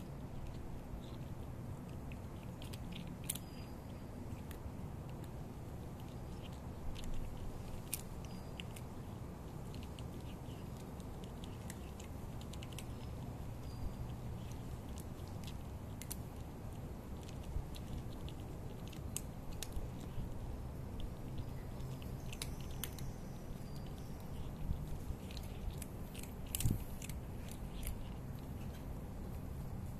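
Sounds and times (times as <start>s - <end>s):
cat crunching dry kibble: 0.0s - 29.9s
low background noise: 0.0s - 29.9s.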